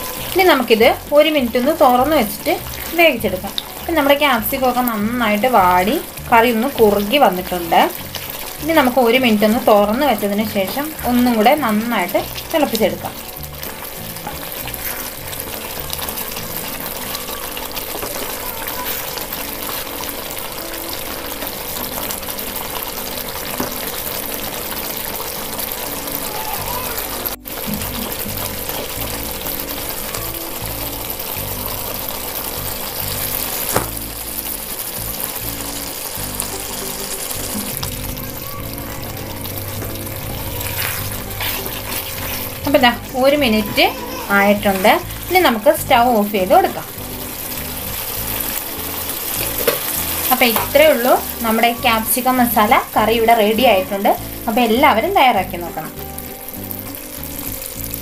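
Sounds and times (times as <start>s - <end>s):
background music: 0.0s - 58.0s
curry bubbling in a pan: 0.0s - 58.0s.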